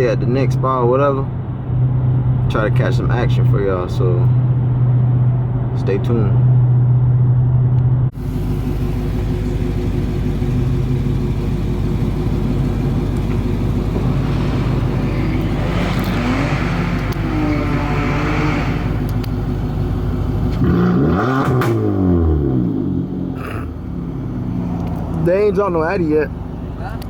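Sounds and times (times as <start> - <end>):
car engine droning in cabin: 0.0 - 27.0.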